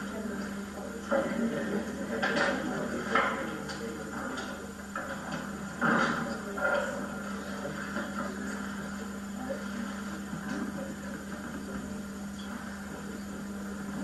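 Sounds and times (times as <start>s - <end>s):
videotape hum and hiss: 0.0s - 14.0s.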